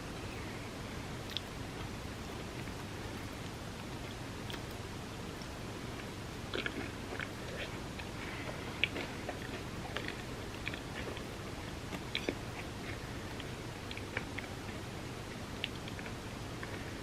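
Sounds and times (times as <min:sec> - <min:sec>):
background hiss: 0:00.0 - 0:17.0
person chewing: 0:00.2 - 0:16.9.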